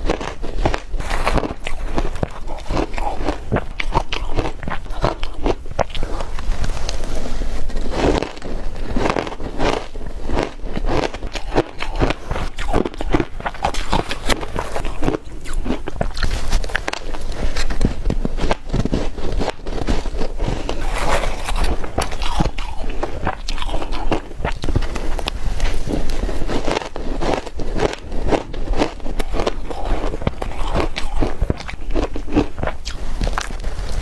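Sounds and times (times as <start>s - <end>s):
ice being chewed: 0.0s - 34.0s.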